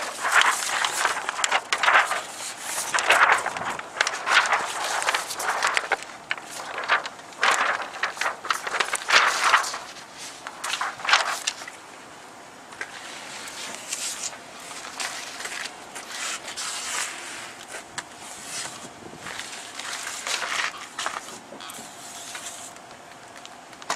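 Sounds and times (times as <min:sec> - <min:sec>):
plastic film rustling and crinkling: 0:00.0 - 0:11.8, 0:12.8 - 0:23.9.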